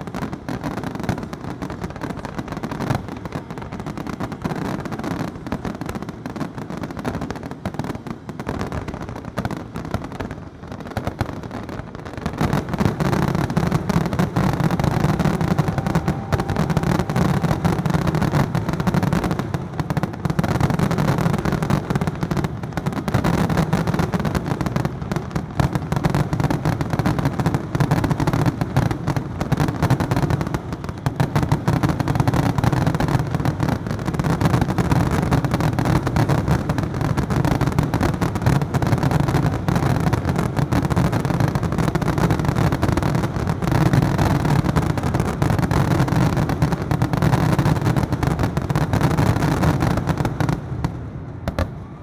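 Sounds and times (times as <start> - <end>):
fireworks barrage: 0.0 - 52.0.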